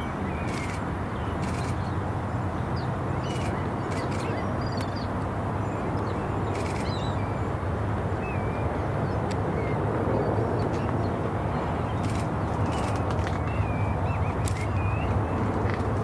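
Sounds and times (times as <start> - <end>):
birds chirping: 0.0 - 7.5, 8.2 - 16.0.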